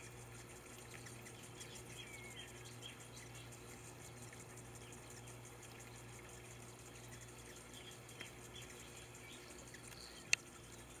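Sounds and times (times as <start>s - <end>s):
birds splashing in water: 0.0s - 11.0s
faint high bird chirps: 0.8s - 11.0s.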